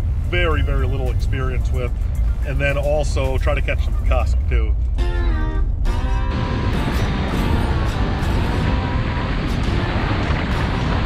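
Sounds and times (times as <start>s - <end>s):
truck driving rumble: 0.0s - 11.0s.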